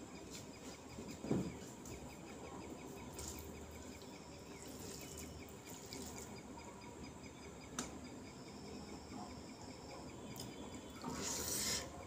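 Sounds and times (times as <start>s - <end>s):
faint regular chirping: 0.0s - 12.0s.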